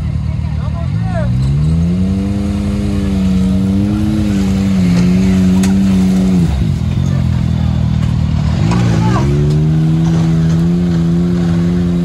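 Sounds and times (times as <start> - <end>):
utv engine revving hard: 0.8 - 12.0.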